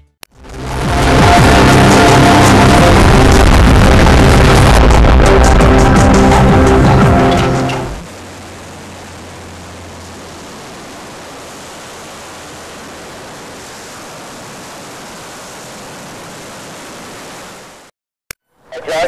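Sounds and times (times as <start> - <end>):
ocean surf breaking: 0.5 - 17.9.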